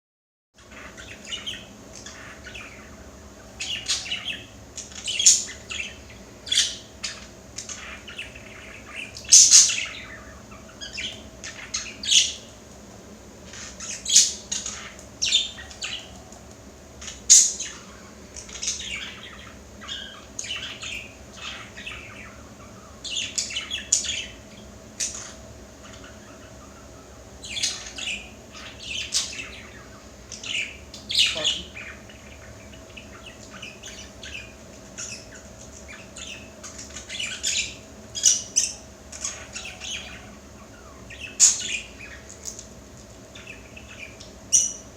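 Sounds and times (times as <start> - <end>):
budgerigar chirping and squawking: 0.6 - 12.6, 17.0 - 42.4.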